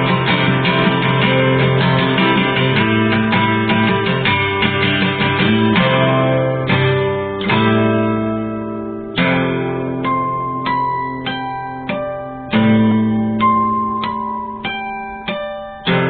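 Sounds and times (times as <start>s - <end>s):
guitar strumming: 0.0s - 16.0s.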